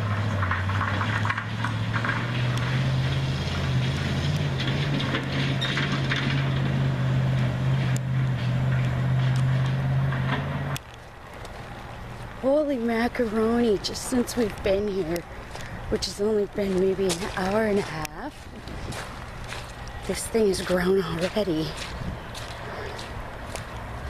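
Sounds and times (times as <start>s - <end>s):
large vehicle engine running: 0.0s - 24.0s.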